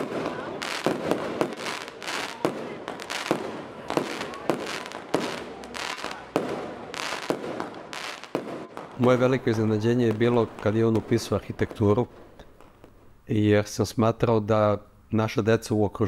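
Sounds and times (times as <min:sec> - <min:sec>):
crackle of bursting fireworks: 0:00.0 - 0:13.2
fireworks bangs: 0:00.0 - 0:13.2.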